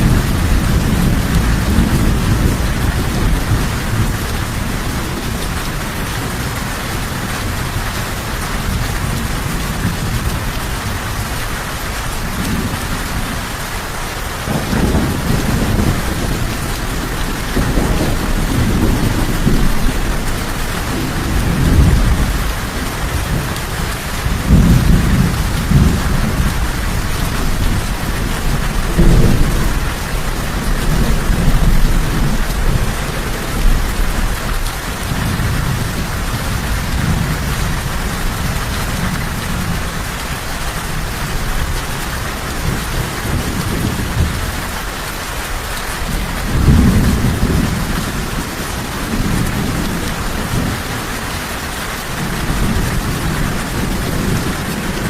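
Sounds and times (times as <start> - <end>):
low rolling thunder: 0.0 - 55.0
steady rain: 0.0 - 55.0.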